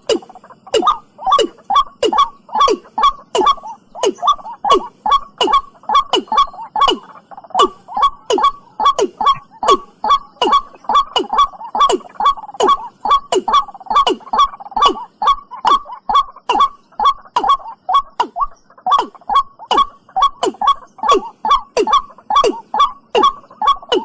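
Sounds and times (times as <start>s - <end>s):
bird calls dropping in pitch: 0.0s - 24.0s.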